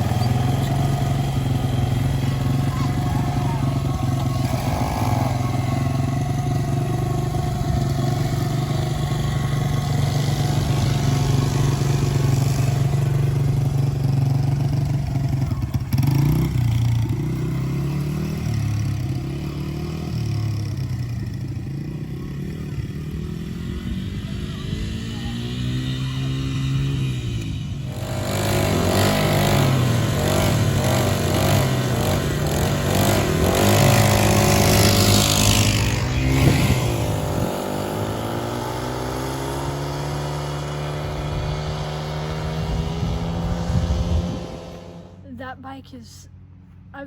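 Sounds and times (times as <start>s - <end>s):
dirt bike engine revving: 0.0s - 45.4s.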